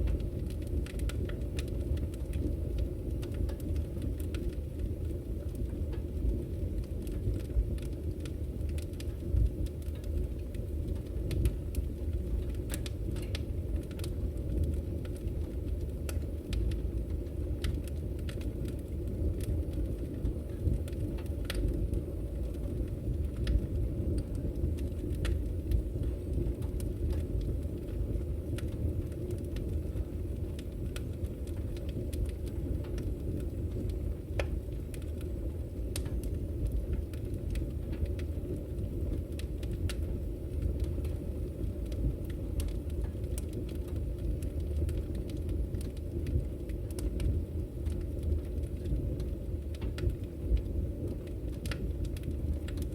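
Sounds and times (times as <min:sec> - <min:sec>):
firewood crackling and popping: 0:00.0 - 0:52.9
wood fire burning: 0:00.0 - 0:52.9.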